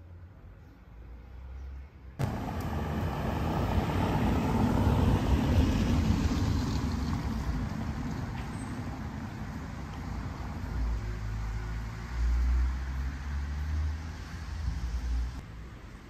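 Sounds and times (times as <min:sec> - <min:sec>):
motor vehicle passing: 0:02.2 - 0:15.4.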